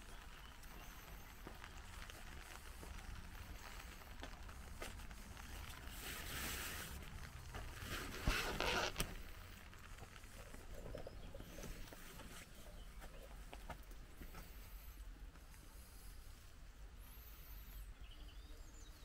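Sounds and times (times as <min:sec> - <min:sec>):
footsteps on wet ground: 0:00.0 - 0:16.0
rain: 0:00.0 - 0:19.0.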